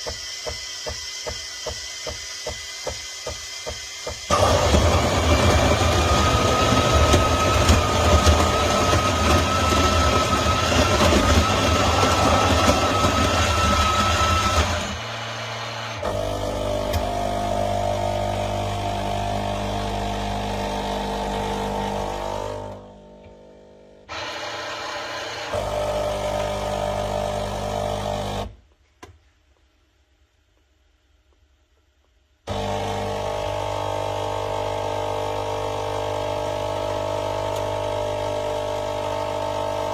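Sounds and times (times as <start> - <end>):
coffee machine humming and whining: 0.0 - 28.6, 32.5 - 39.9.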